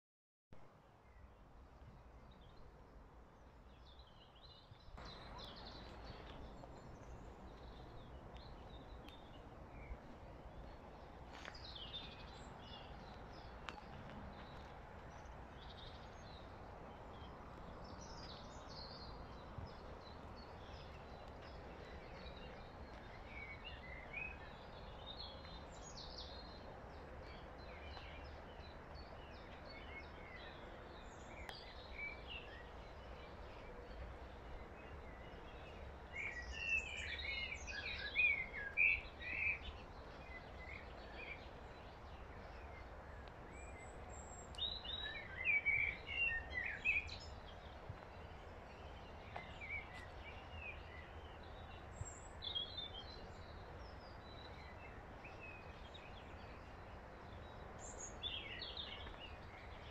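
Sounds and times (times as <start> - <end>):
steady outdoor hiss: 0.6 - 59.9
small birds singing and chirping: 3.4 - 59.9.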